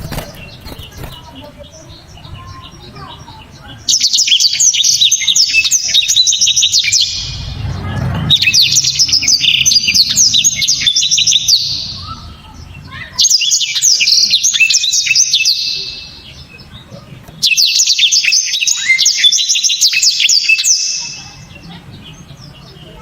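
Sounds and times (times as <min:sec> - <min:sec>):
canary twittering song: 0:00.0 - 0:23.0.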